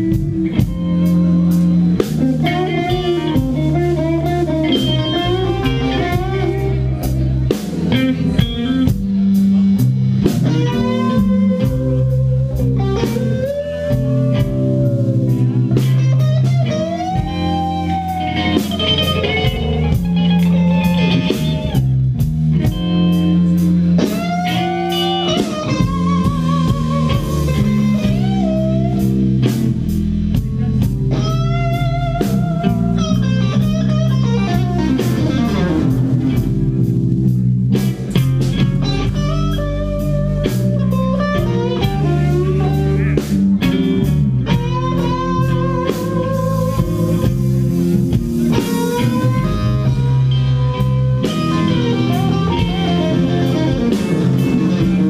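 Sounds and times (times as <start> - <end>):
drums: 0.0 - 55.0
electric guitar solo: 0.0 - 55.0.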